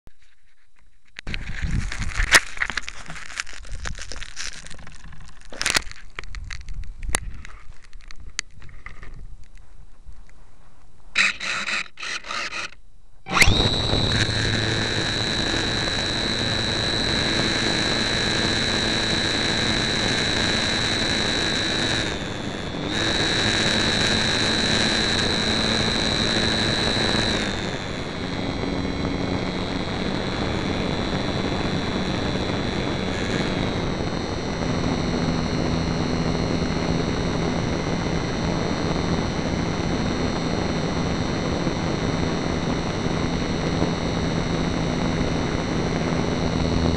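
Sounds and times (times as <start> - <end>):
electric motor and propeller whine: 1.3 - 7.8, 11.2 - 46.9.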